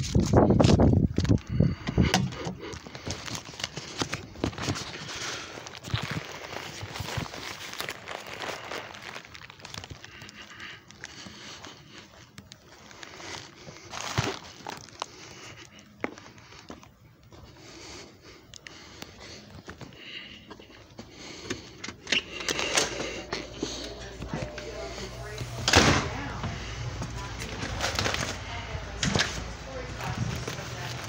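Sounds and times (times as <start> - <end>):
footsteps: 0.0 - 31.0
plastic mailer crinkling: 1.1 - 16.9, 21.2 - 31.0.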